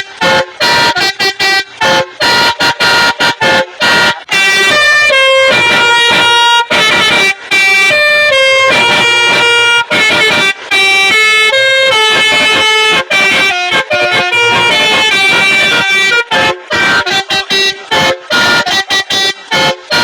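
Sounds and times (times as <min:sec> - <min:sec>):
melodica playing a quick tune: 0:00.0 - 0:20.0.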